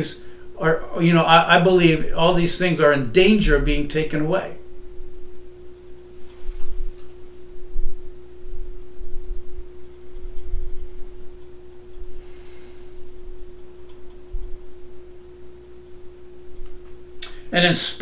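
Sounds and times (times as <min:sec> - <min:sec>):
steady single-pitched hum: 0:00.0 - 0:18.0.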